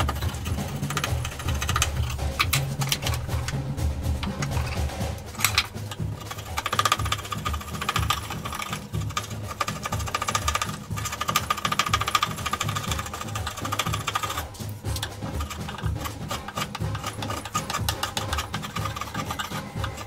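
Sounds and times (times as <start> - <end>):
file rasping on wood: 0.0 - 20.0.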